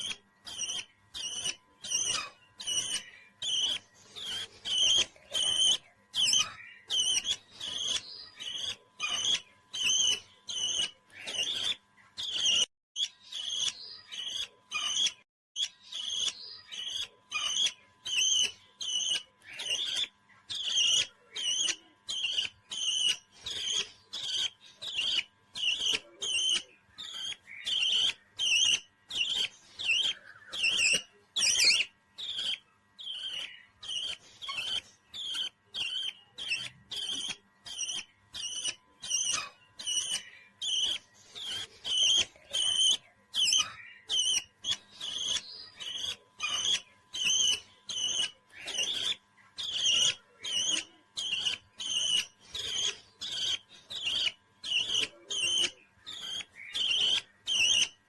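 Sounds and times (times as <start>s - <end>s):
parrot chirping: 0.0s - 58.0s.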